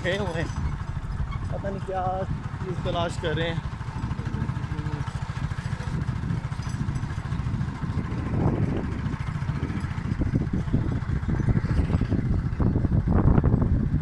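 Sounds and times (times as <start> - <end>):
small engine pulsing steadily: 0.0 - 14.0.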